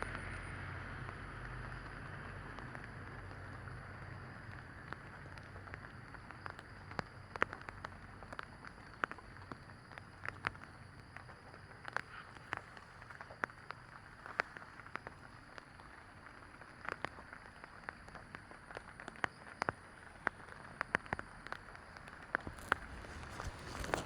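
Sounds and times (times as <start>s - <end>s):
water drops tapping on leaves: 0.0s - 24.0s.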